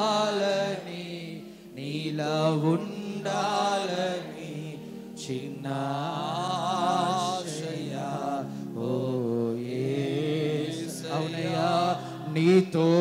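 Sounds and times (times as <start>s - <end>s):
man singing worship song: 0.0s - 13.0s.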